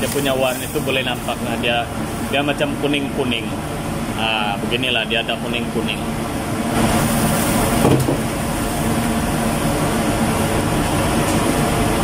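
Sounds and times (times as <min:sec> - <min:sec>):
gas burner roaring: 0:00.0 - 0:12.0
kitchen ventilation: 0:00.0 - 0:12.0.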